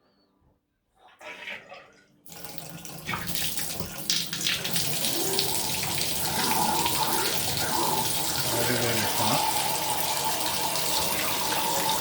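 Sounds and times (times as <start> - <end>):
shower water rushing: 2.3 - 12.0.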